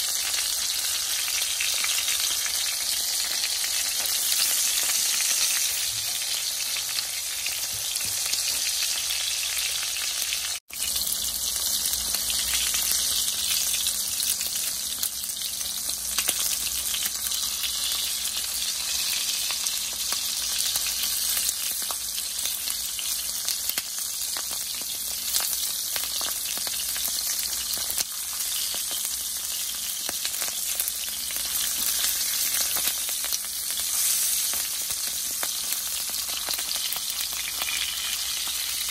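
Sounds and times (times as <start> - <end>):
sausages sizzling in oil: 0.0 - 38.9.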